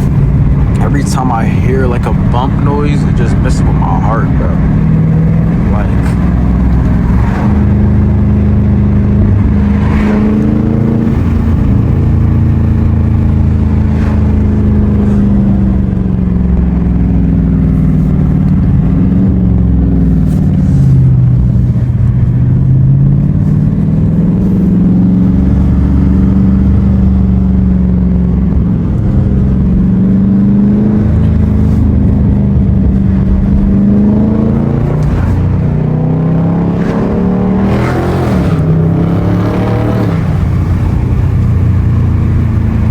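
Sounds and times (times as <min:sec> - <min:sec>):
car exhaust revving: 0:00.0 - 0:42.9.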